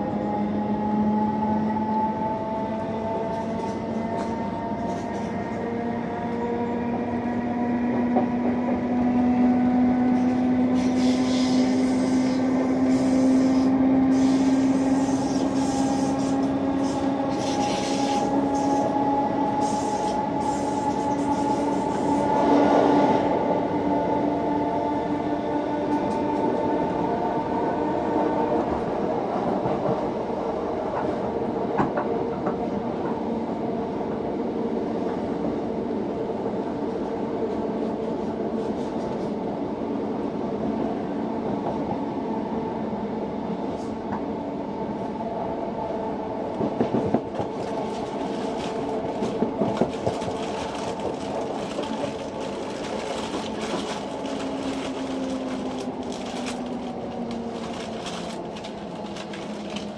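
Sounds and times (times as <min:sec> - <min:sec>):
steady train tones: 0:00.0 - 0:59.9
train wheels rumbling on rail: 0:00.0 - 0:59.9.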